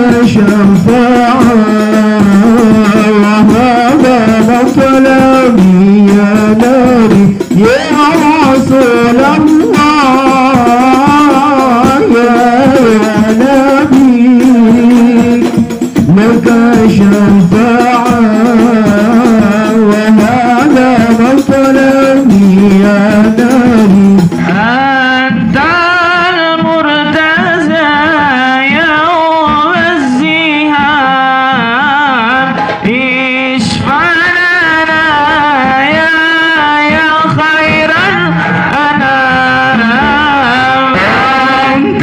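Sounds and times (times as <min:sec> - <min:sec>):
chorus voices: 0:00.0 - 0:42.0
frame drums beating: 0:00.0 - 0:42.0
man singing into microphone: 0:00.0 - 0:42.0.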